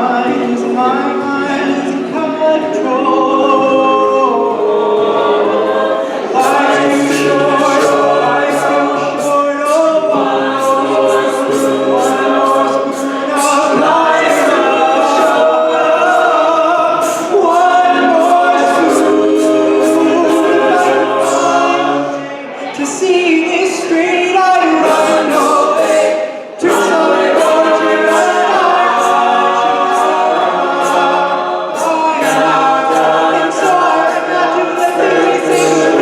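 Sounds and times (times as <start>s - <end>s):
a cappella group singing chords: 0.0s - 36.0s
vocal percussion beat: 0.0s - 36.0s.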